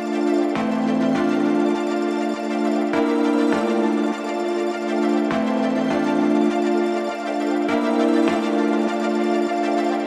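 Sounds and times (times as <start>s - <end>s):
instrumental music sustained chords: 0.0s - 10.0s.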